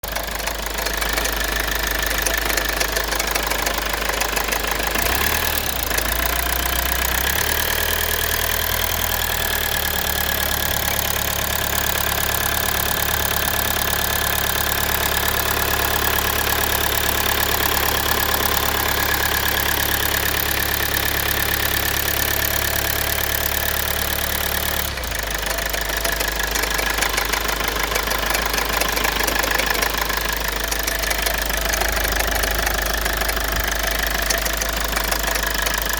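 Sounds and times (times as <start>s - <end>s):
diesel engine running with knock: 0.0s - 35.9s.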